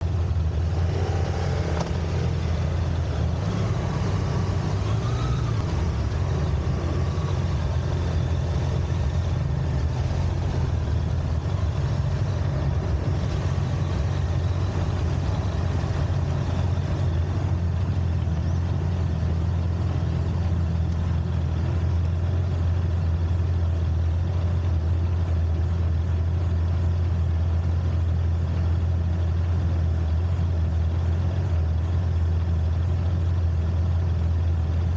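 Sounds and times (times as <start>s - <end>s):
vehicle engine and tyres rumbling: 0.0s - 34.9s.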